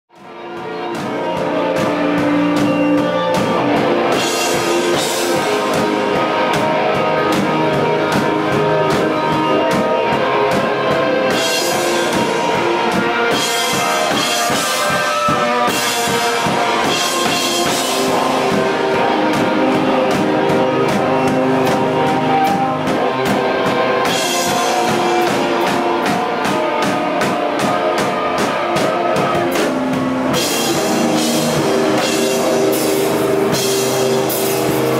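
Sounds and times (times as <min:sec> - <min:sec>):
drum kit: 0:00.1 - 0:34.9
electric guitar: 0:00.1 - 0:34.9.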